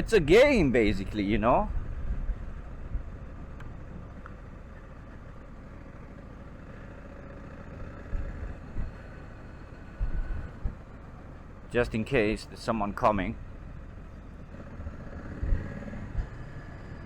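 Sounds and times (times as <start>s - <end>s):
motorcycle engine low rumble: 0.0s - 17.0s.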